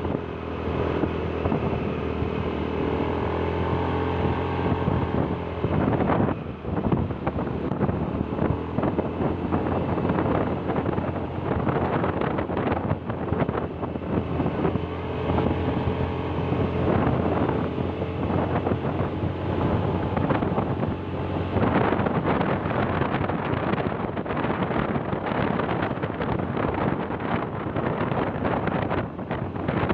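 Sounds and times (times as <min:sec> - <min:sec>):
vehicle engine running: 0:00.0 - 0:29.9
wind rushing over microphone: 0:00.0 - 0:29.9.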